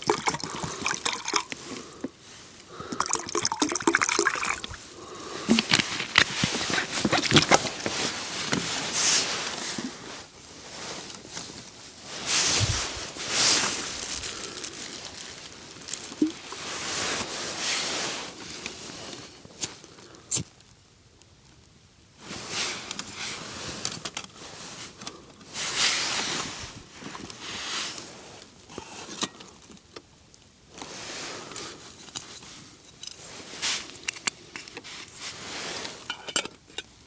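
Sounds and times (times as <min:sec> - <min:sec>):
camping gear rustling: 0:00.0 - 0:20.6, 0:21.7 - 0:37.0.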